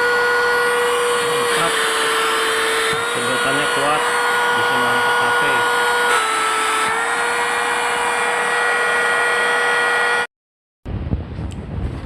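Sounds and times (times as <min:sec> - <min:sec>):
vacuum cleaner motor whine: 0:00.0 - 0:10.3.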